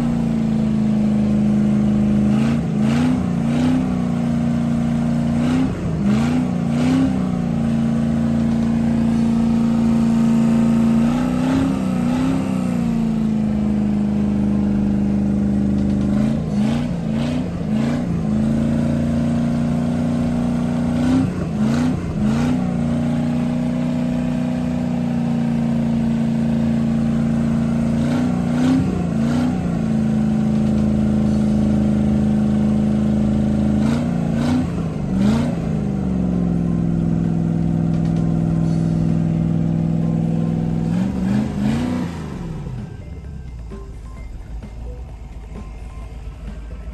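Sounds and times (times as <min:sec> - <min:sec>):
boat engine idling with throttle blips: 0:00.0 - 0:46.9.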